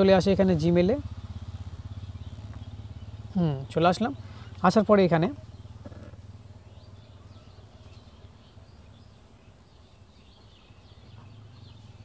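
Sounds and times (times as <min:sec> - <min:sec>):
faint bird chirps: 0:00.0 - 0:12.0
steady low hum: 0:00.0 - 0:12.0.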